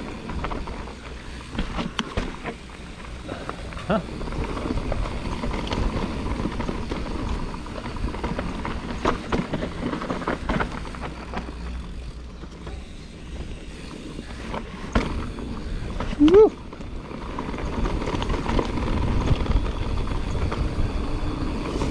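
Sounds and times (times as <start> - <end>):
bike chain and frame rattling: 0.0 - 21.9
bike tyres rumbling on dirt: 0.0 - 21.9.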